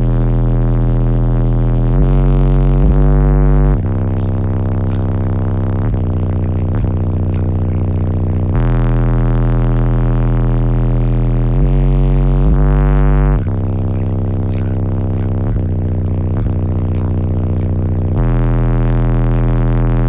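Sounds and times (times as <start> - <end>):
loud bass from subwoofers: 0.0 - 20.0.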